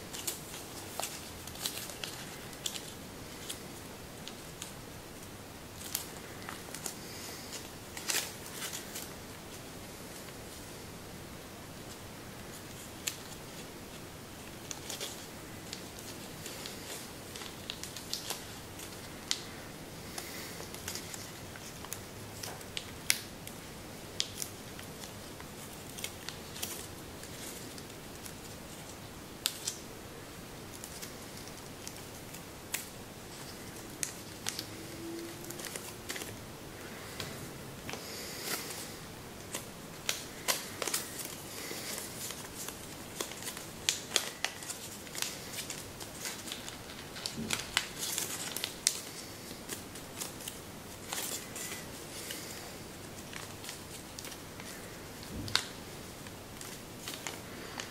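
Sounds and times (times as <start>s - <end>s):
paper rustling and crackling: 0.0s - 10.8s, 11.8s - 57.9s
steady low hiss: 0.0s - 57.9s.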